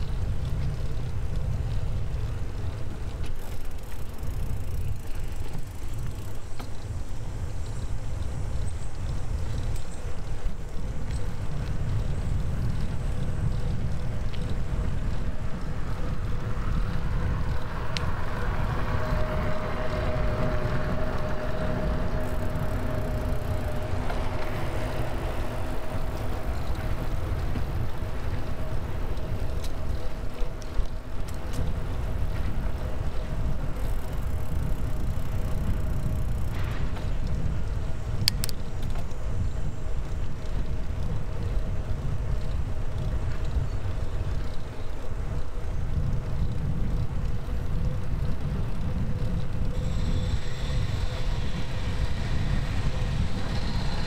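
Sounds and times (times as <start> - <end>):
vehicle engine hum: 0.0 - 54.0
wind rumbling on microphone: 0.0 - 54.0.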